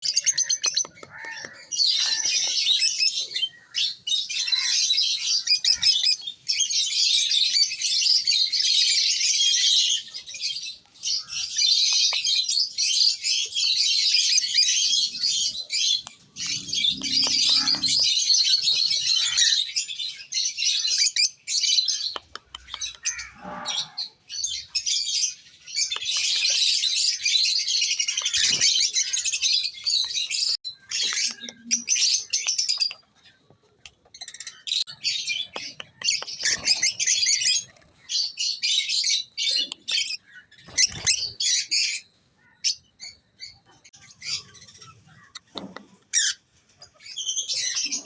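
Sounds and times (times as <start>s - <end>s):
lovebirds chattering and chirping: 0.0s - 48.0s.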